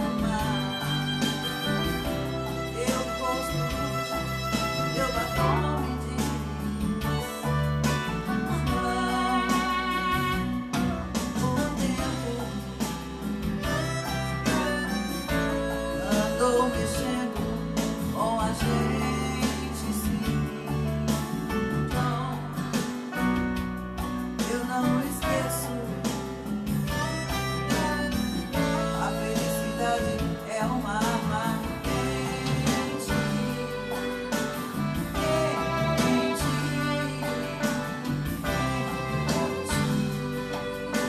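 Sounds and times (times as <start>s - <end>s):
woman singing: 0.0s - 7.4s, 8.5s - 10.5s, 11.3s - 13.0s, 13.6s - 22.9s, 24.4s - 26.2s, 26.9s - 34.0s, 35.0s - 40.6s
guitar-led backing track: 0.0s - 41.0s.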